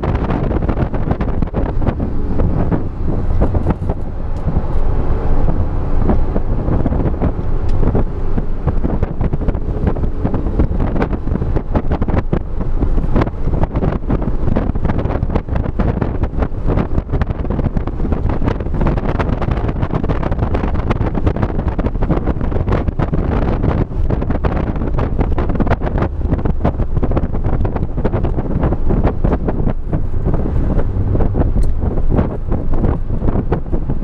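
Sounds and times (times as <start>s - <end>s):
car engine and road noise: 0.0s - 34.0s
wind buffeting on microphone: 0.0s - 34.0s.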